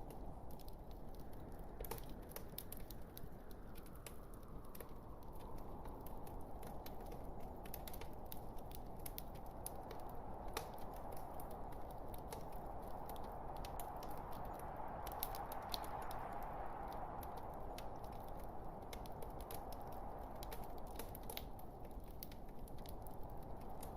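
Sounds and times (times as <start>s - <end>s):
log fire crackling: 0.0s - 23.9s.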